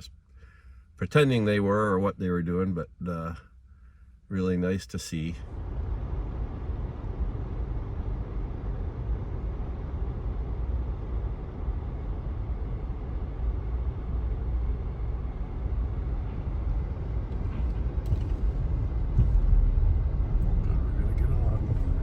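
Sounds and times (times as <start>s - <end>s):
vehicle rumbling: 0.0s - 22.0s.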